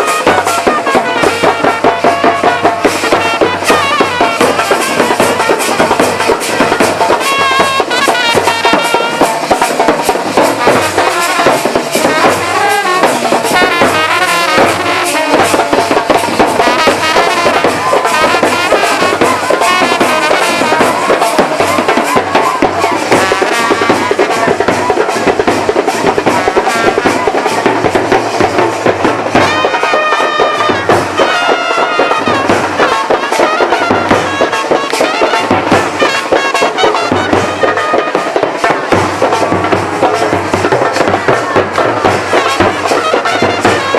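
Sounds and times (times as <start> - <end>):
brass instruments melody: 0.0 - 43.9
rapid drumming: 0.0 - 43.9.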